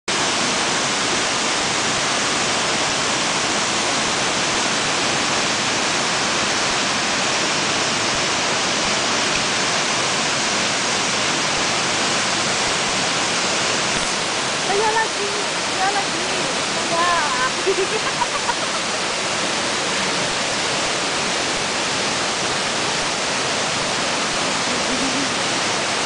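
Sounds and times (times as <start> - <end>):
waterfall rushing: 0.1 - 26.0.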